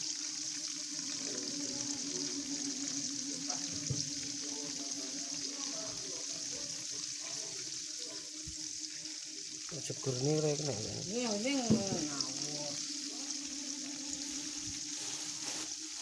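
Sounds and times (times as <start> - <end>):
tofu deep-frying in hot oil: 0.0 - 16.0.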